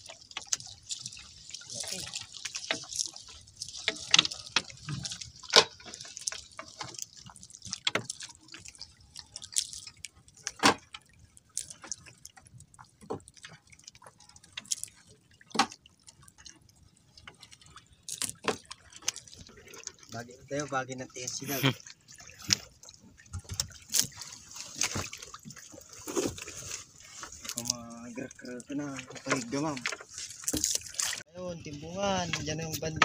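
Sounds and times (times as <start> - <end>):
water dripping and splashing: 0.0 - 33.0.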